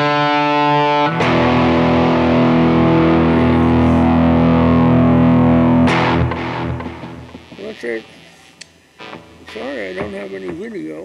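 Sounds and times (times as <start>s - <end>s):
electric guitar chord ringing: 0.0s - 10.8s.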